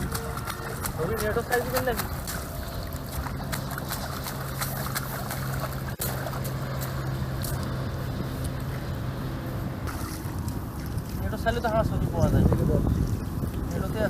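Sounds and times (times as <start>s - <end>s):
rough background noise: 0.0s - 14.0s.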